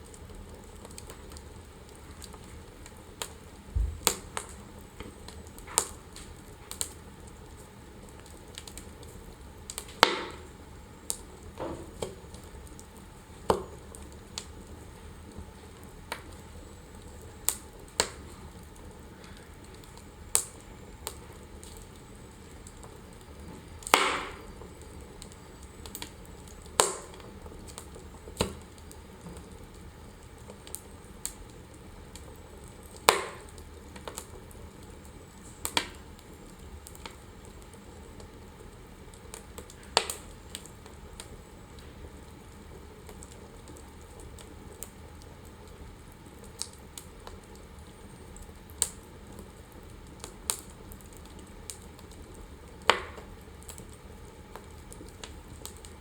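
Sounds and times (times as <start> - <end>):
faint steady hiss: 0.0 - 56.0
fire crackling and popping: 0.0 - 56.0.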